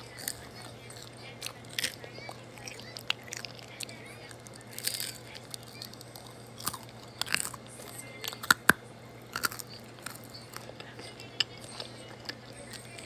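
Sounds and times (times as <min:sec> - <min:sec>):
person chewing crunchy fries: 0:00.0 - 0:13.0.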